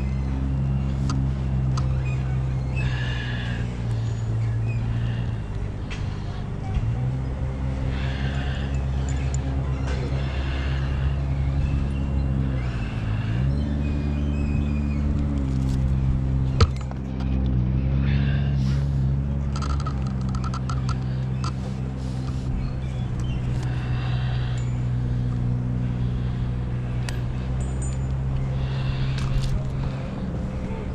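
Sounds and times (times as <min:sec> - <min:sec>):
engine running at low speed: 0:00.0 - 0:30.9.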